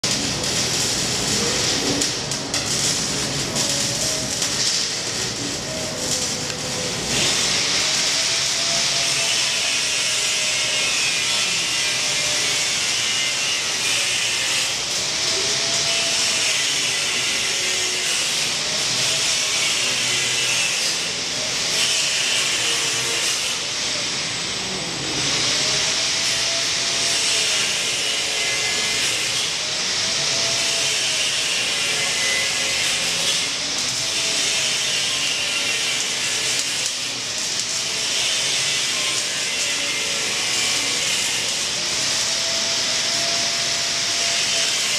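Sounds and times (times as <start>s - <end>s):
welding arc hissing: 0.0s - 44.9s.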